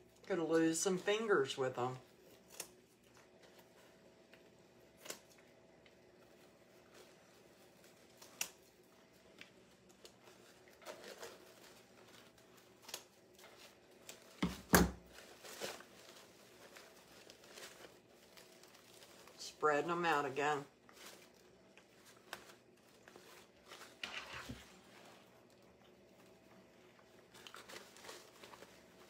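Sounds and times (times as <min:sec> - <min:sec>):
ribbon rustling: 0:00.0 - 0:29.0.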